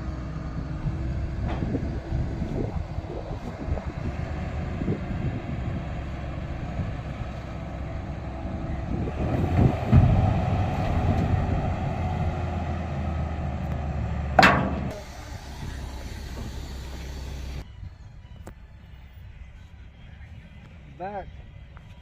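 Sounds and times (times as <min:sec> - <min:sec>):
truck diesel engine droning: 0:00.0 - 0:20.6.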